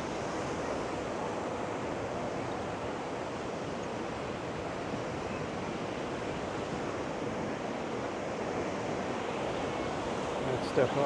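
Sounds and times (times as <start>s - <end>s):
ocean surf on sandy beach: 0.0s - 11.0s.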